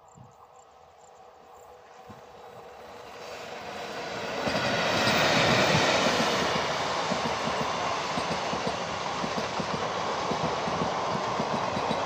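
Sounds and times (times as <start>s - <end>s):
train passing: 0.0s - 12.0s.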